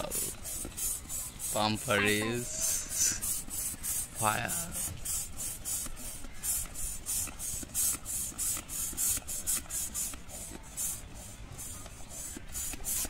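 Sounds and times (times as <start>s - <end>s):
hand air pump hissing: 0.0s - 13.0s.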